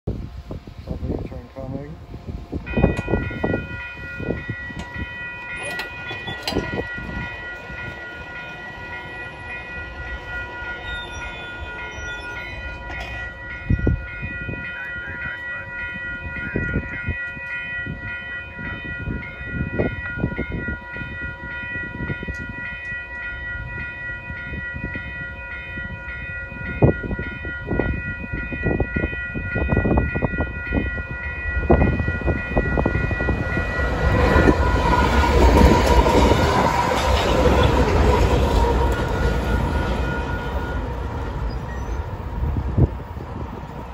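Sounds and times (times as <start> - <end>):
diesel locomotive engine rumble: 0.1 - 43.9
train wheel noise: 0.1 - 43.9
level-crossing warning bell: 1.5 - 43.9.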